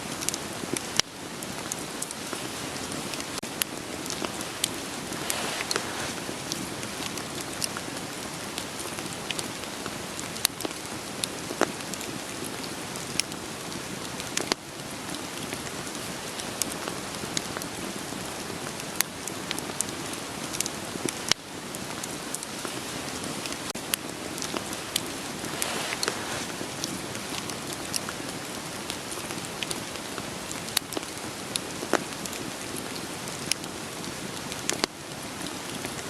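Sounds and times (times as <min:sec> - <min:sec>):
campfire crackling: 0:00.0 - 0:36.0
rain hiss: 0:00.0 - 0:36.0.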